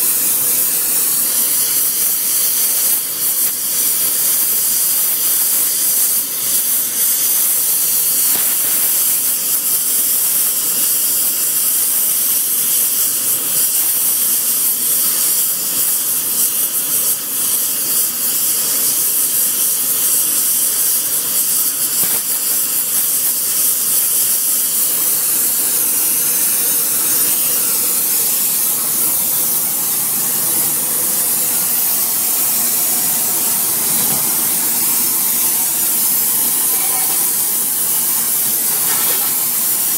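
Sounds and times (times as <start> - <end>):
torch flame hissing: 0.0 - 39.9.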